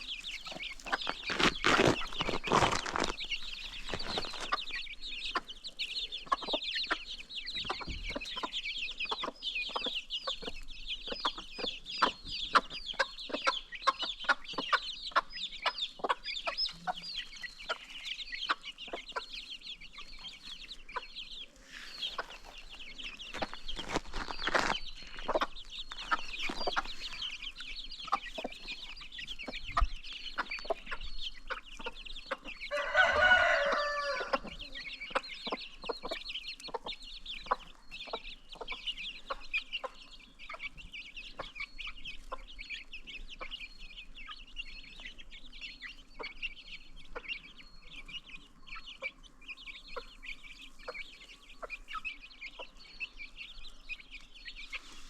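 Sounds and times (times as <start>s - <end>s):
baby chicks peeping: 0.0s - 55.0s
chickens clucking: 0.0s - 55.0s.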